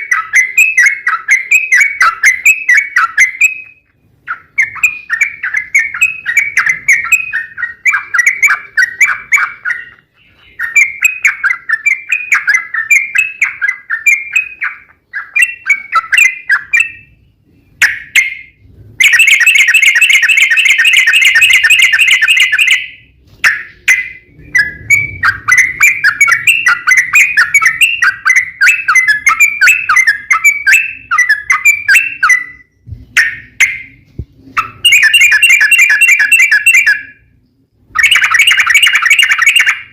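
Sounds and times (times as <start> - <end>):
bird singing rapid chattering phrases: 0.0 - 39.9.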